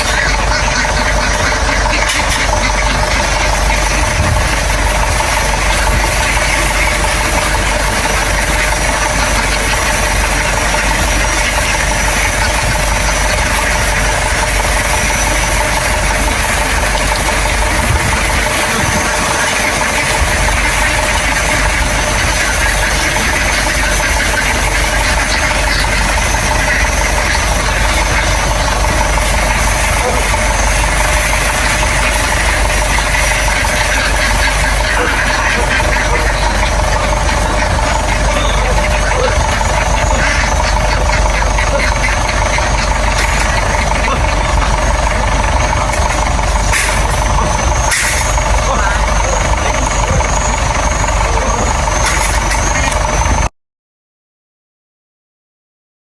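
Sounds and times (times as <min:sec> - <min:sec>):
engine running steadily: 0:00.0 - 0:53.5.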